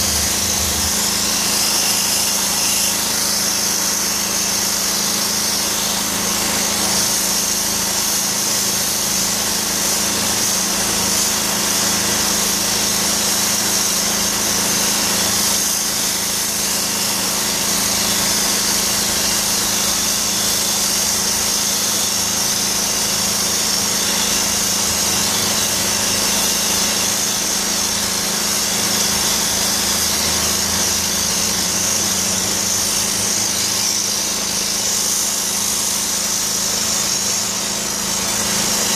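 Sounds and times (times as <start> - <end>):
mechanical hum: 0.0 - 38.9
steam lance hissing: 0.0 - 38.9.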